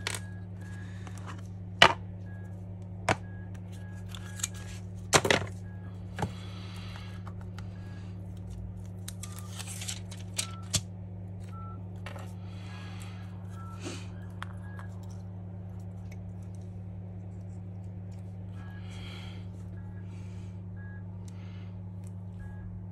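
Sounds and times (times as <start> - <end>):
low electrical hum: 0.0 - 22.9.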